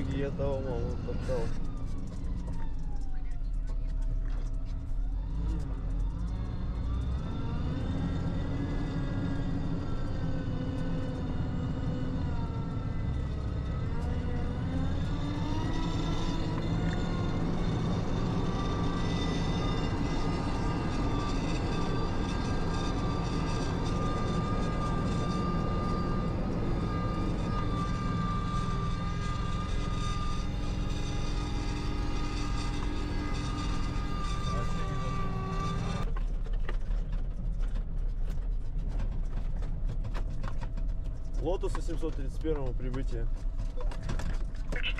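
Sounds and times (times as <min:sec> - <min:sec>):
fire engine driving at speed: 0:00.0 - 0:44.9.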